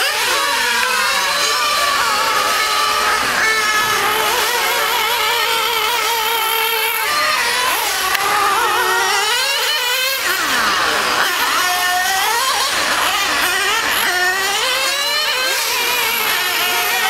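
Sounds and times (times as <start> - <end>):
small high-revving engine: 0.0 - 17.0.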